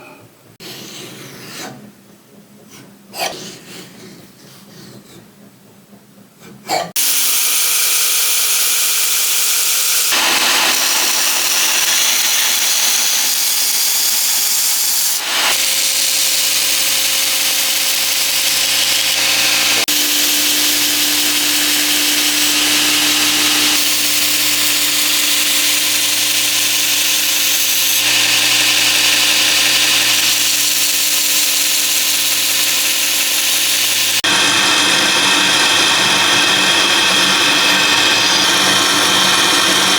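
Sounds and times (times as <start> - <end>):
power tools grinding and cutting steel: 6.9 - 39.9.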